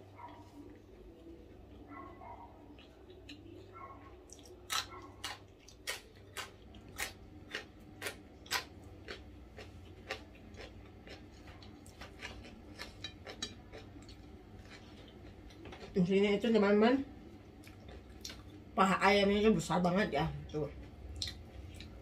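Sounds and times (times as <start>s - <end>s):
person chewing crisp food: 0.2s - 16.0s, 17.4s - 18.7s, 20.8s - 22.0s.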